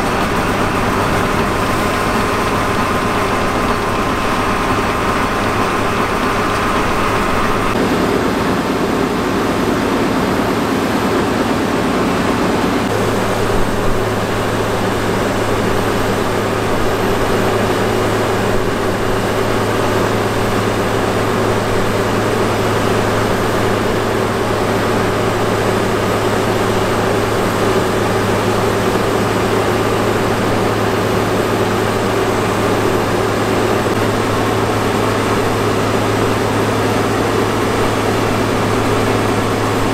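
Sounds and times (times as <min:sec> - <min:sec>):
mechanical drone: 0:00.0 - 0:39.9.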